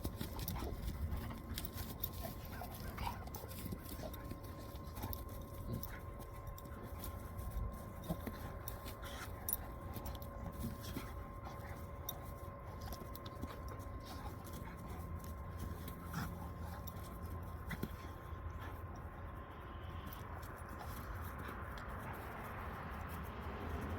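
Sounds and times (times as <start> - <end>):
faint steady hum: 0.0 - 23.8
dogs scuffling and pawing: 0.0 - 23.9.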